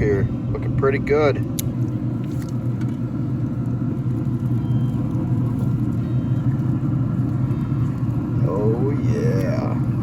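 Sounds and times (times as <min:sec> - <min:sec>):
pellet grill fan humming: 0:00.0 - 0:10.0.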